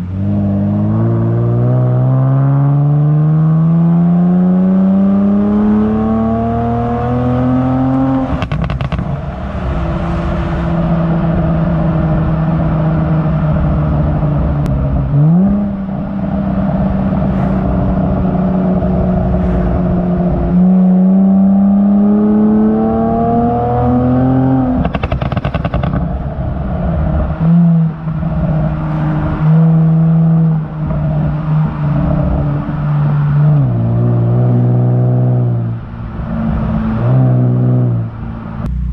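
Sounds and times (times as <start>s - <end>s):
car exhaust accelerating: 0.0s - 38.9s.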